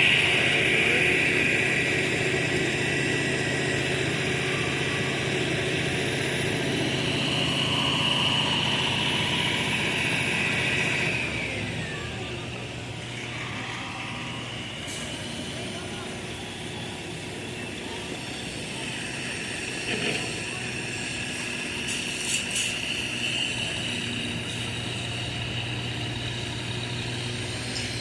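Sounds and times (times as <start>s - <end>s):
machine engine whining: 0.0s - 28.0s.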